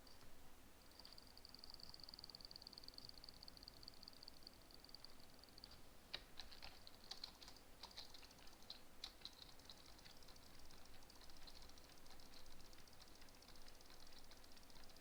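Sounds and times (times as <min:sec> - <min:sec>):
faint rapid clicking: 0:00.9 - 0:15.0.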